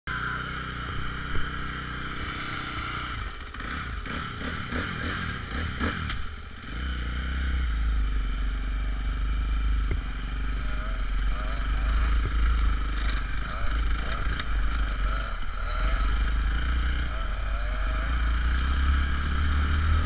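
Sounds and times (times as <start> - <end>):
motocross bike engine: 0.1 - 20.0.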